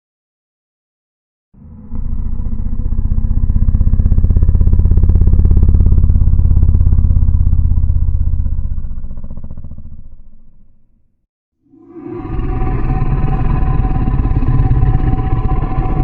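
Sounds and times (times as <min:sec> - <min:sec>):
deep throbbing mechanical rumble: 0:01.6 - 0:10.9, 0:11.7 - 0:16.0.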